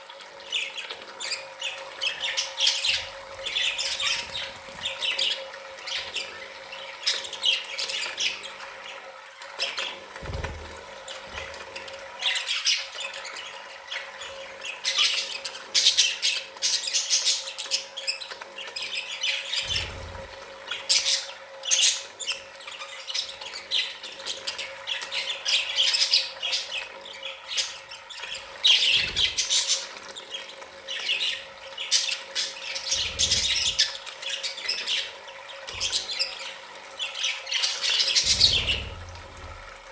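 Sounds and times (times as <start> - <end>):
budgerigars chattering and squawking: 0.5 - 10.6, 11.4 - 39.8.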